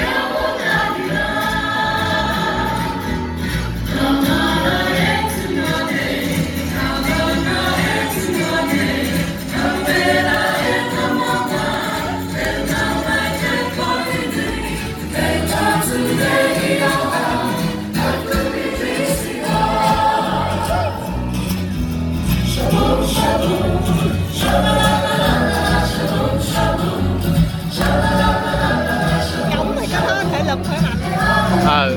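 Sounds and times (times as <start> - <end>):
group singing in harmony: 0.0 - 31.9.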